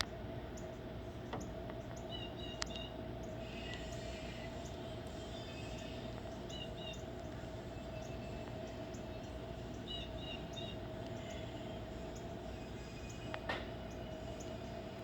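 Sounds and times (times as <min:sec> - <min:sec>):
steady outdoor hum: 0:00.0 - 0:15.0
small bird chirping: 0:01.4 - 0:14.9.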